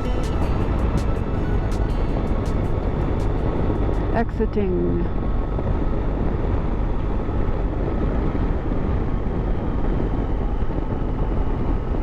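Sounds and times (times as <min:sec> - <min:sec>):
motorcycle engine rumble: 0:00.0 - 0:12.0
wind noise: 0:00.0 - 0:12.0.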